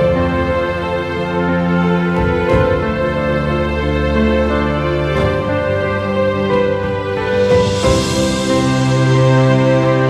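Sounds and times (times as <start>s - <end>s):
slow background music: 0.0s - 10.0s.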